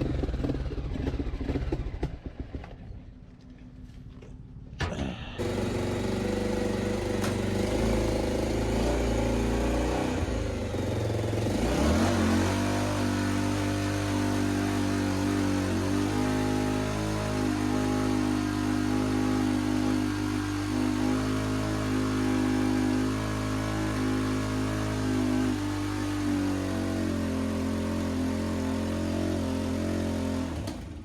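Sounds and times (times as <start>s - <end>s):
motorcycle engine at high revs: 0.0s - 2.8s, 5.4s - 31.0s.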